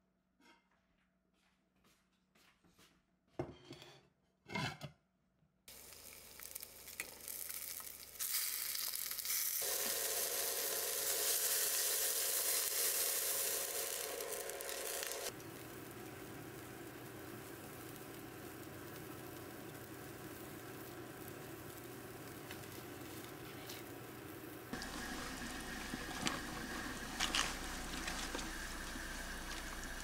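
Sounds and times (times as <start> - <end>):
chicken sizzling in a pot: 5.7 - 30.0
water boiling in a pot: 5.7 - 30.0.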